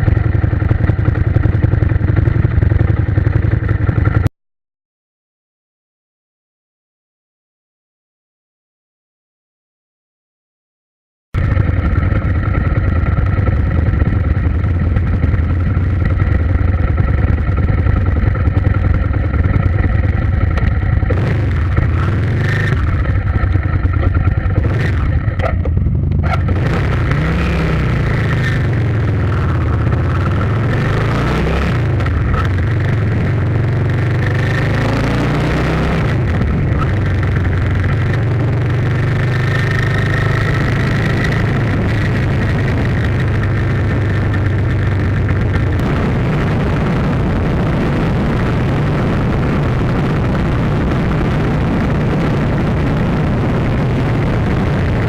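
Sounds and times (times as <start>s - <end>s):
motorcycle engine droning: 0.0s - 4.3s, 11.4s - 55.0s.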